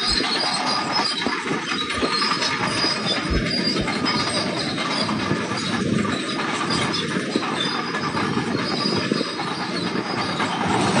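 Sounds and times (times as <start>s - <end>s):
diesel engine running: 0.0s - 11.0s
steel tracks clattering: 0.0s - 11.0s
thin high squeals: 0.0s - 11.0s.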